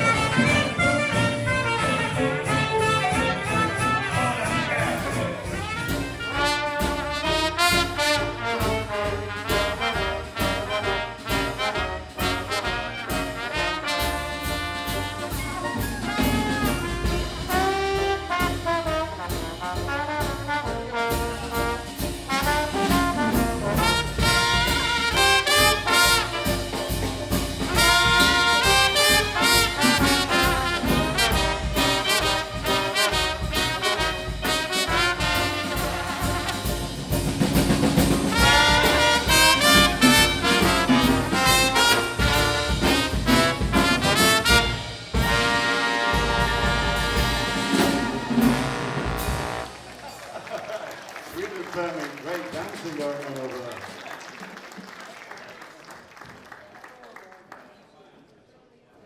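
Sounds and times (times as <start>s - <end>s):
jazz band playing: 0.0s - 51.5s.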